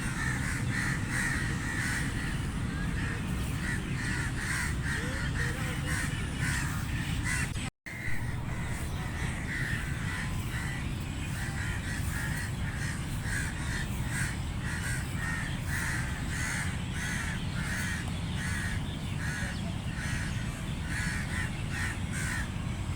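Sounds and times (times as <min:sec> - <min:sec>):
crows cawing: 0:00.0 - 0:22.5
low background rumble: 0:00.0 - 0:22.9.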